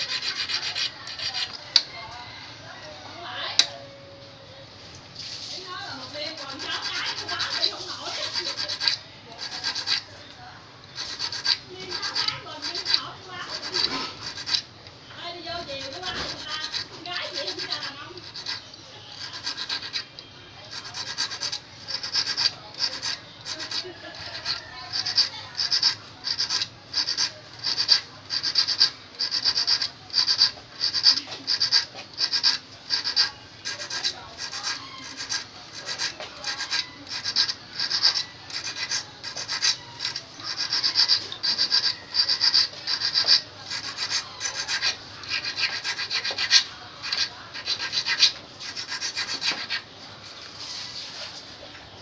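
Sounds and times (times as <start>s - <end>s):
hand file rasping on fishhook: 0.0s - 1.6s, 6.1s - 10.1s, 11.0s - 14.6s, 15.6s - 49.8s.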